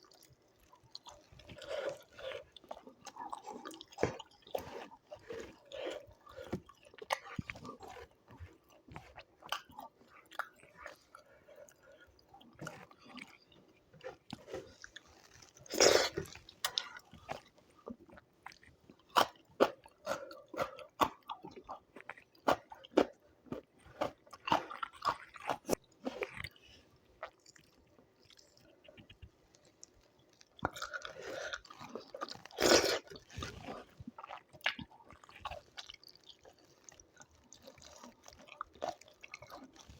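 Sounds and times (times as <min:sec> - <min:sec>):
person chewing: 0:00.1 - 0:39.9.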